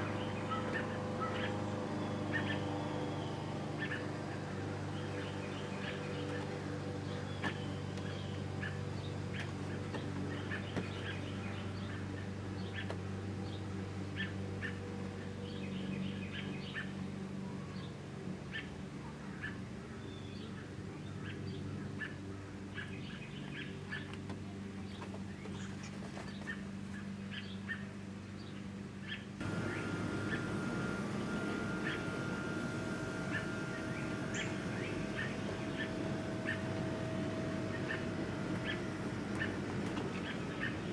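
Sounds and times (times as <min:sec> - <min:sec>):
birds chirping: 0:00.0 - 0:40.9
steady low hum: 0:00.0 - 0:40.9.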